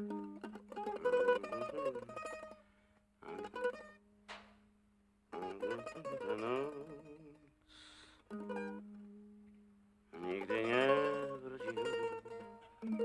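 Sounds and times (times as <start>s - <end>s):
mandolin plucked: 0.0s - 7.6s, 8.2s - 13.0s.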